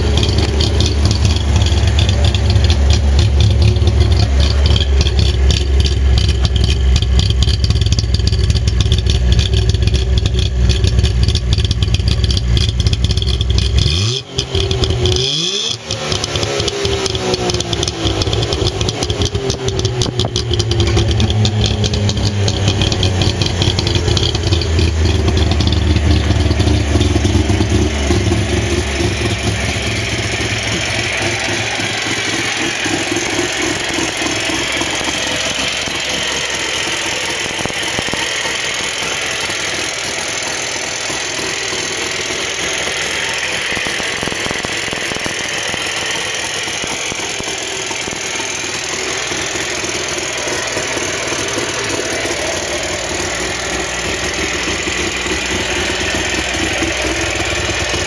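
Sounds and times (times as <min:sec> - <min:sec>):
two-stroke car engine idling: 0:00.0 - 0:58.0.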